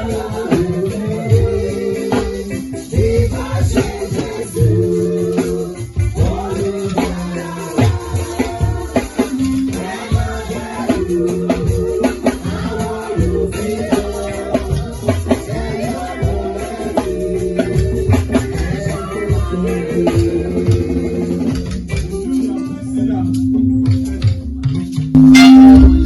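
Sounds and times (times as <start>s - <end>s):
church band music: 0.0s - 26.0s
drums: 0.0s - 26.0s.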